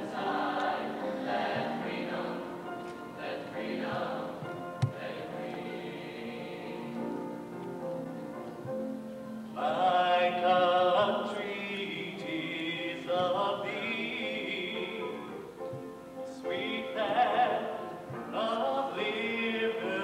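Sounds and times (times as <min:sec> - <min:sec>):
choir singing held notes: 0:00.0 - 0:20.0.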